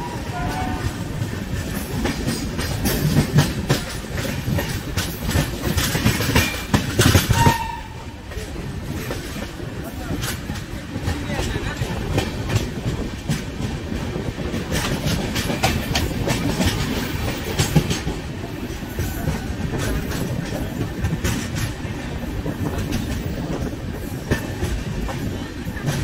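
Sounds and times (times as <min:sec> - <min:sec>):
train coaches rumbling: 0:00.0 - 0:26.0
wheels clicking over rail joints: 0:00.0 - 0:26.0.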